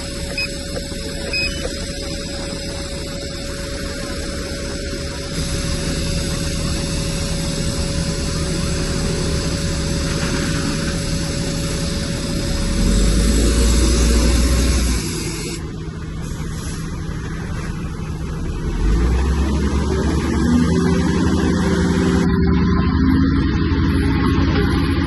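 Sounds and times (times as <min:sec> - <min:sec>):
heavy diesel engine rumbling: 0:00.0 - 0:25.0.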